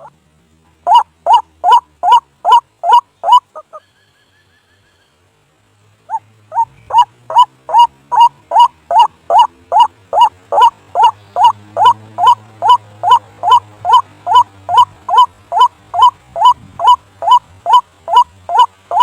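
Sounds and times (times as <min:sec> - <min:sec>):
bird harsh repeated calls: 0:00.8 - 0:04.0, 0:06.1 - 0:19.0.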